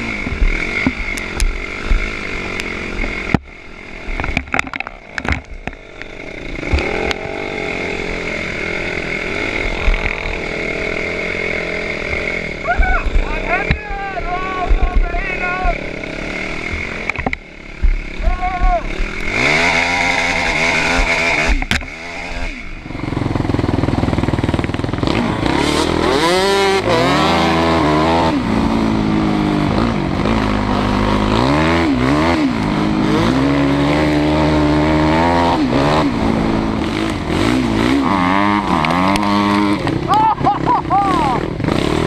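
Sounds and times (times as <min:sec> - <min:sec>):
off-road vehicle engine revving: 0:00.0 - 0:42.0.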